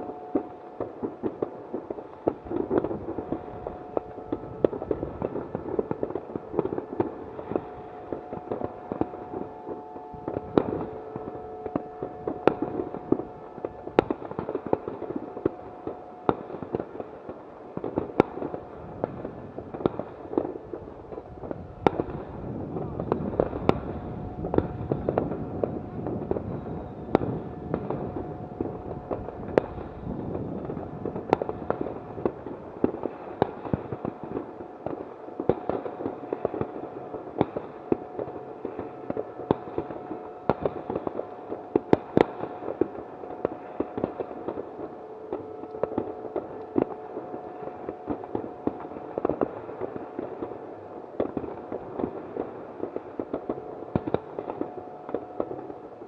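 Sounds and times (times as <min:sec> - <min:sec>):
fireworks and firecrackers popping: 0:00.1 - 0:56.0.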